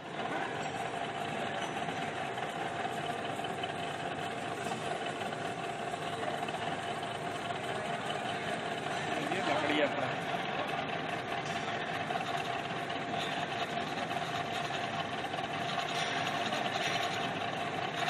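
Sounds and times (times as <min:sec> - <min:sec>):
machine tool running with whine: 0:00.0 - 0:18.0.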